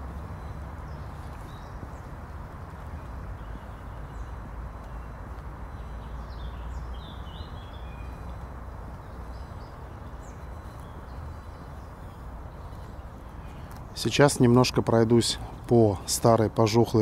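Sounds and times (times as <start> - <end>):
city traffic rumble: 0.0 - 17.0
songbirds chirping: 0.0 - 17.0.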